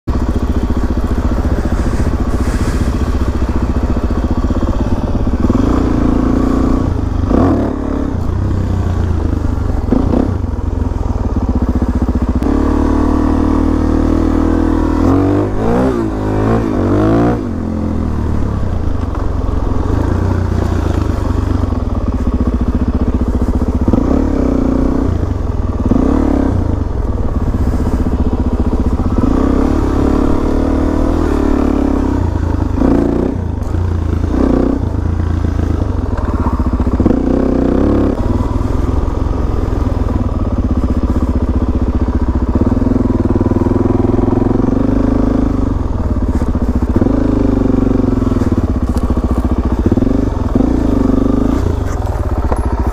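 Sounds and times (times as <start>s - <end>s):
motorcycle engine revving: 0.1s - 52.9s.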